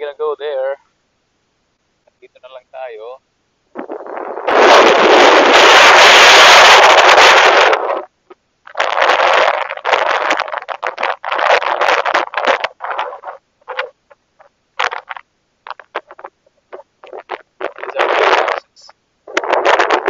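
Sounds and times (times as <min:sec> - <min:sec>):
wind buffeting microphone: 0:03.7 - 0:20.0.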